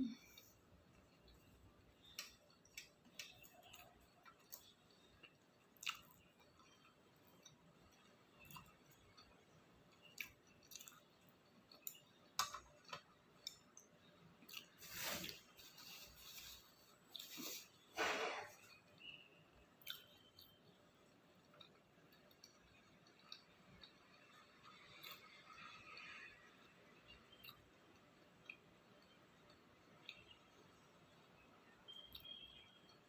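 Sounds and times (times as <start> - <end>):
wet chewing and mouth smacks: 0.3 - 15.4, 19.8 - 26.2, 27.0 - 33.0.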